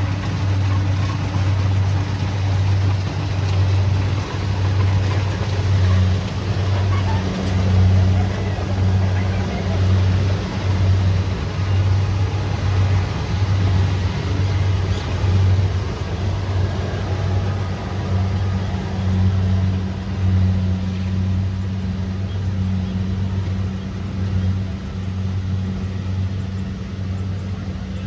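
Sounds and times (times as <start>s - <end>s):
diesel engine droning: 0.0s - 28.0s
harvester machinery clattering: 0.0s - 28.0s.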